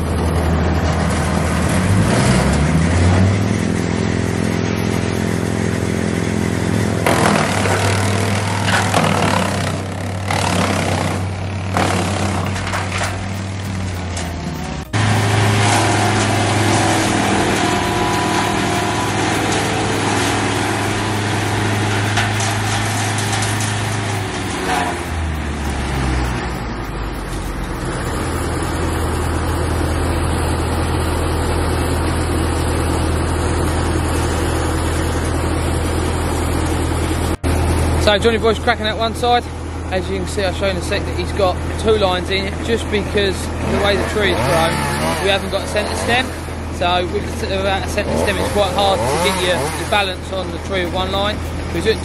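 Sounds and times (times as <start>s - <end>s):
large engine humming: 0.0s - 52.0s.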